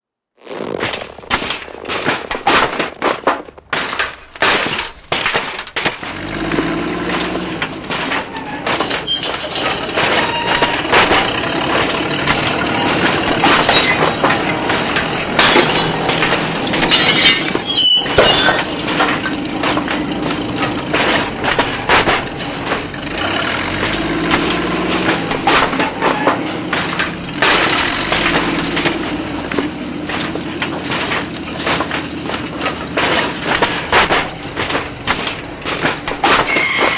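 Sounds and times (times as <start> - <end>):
low vehicle engine: 0.4 - 36.9
glass crashing and breaking: 0.8 - 36.9
sharp knocks: 0.8 - 36.9.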